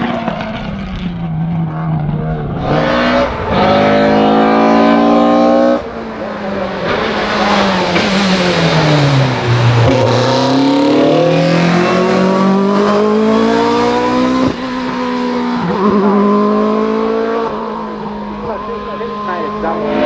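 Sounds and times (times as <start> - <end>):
race car engine at full throttle: 0.0 - 20.0.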